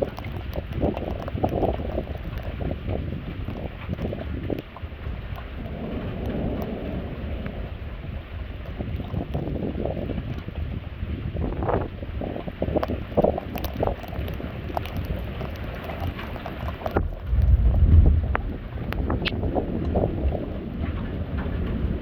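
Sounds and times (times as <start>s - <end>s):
rain ticks: 0.0s - 22.0s
thunder rumble: 0.0s - 22.0s
wind buffeting microphone: 0.0s - 22.0s.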